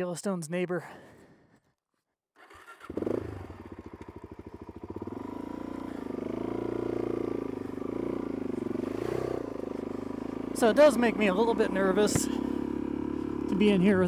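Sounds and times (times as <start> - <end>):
motorcycle engine: 2.4 - 14.0.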